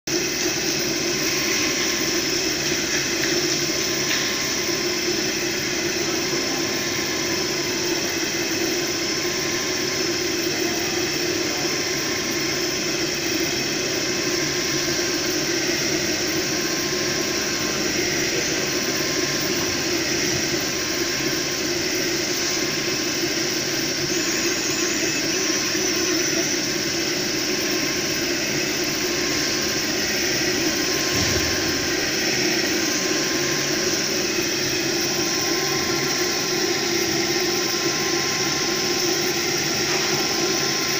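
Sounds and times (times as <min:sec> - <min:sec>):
three d printer motors whirring: 0:00.1 - 0:40.9.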